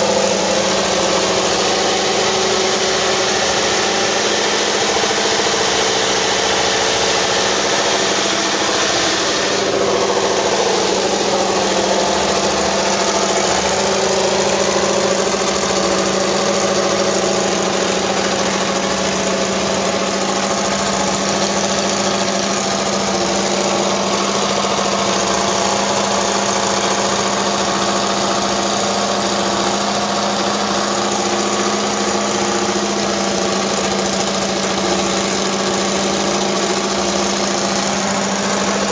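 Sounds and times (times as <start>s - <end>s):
racing car engine idling: 0.0s - 38.9s.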